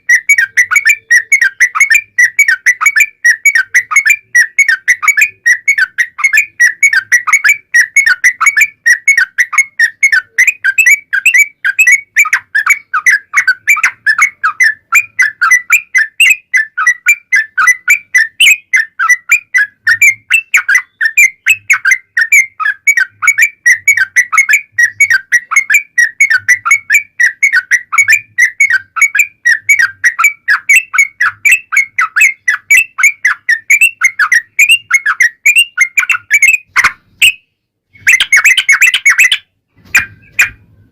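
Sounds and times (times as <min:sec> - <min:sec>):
bulbul singing whistled notes: 0:00.0 - 0:40.6.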